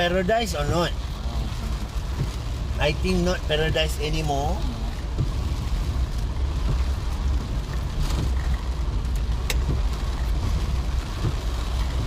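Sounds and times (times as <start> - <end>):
car driving in heavy rain: 0.0 - 12.0.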